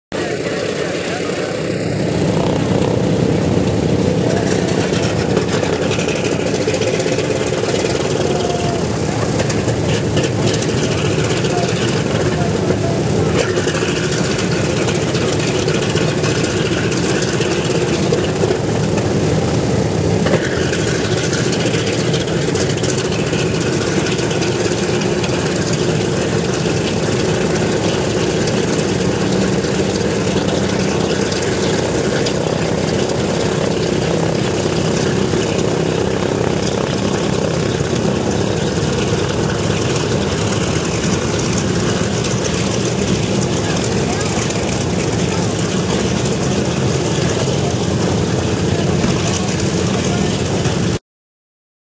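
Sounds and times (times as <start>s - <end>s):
radial aircraft engines droning: 0.1s - 51.0s.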